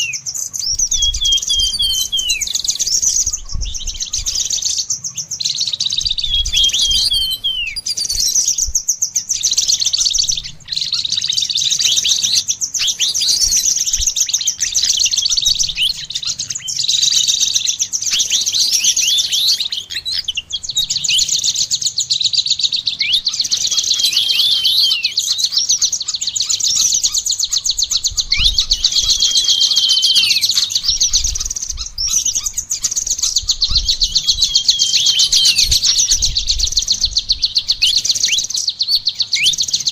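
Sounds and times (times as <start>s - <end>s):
falling whistled bird notes: 0.0s - 39.9s
songbirds trilling and chirping: 0.0s - 39.9s.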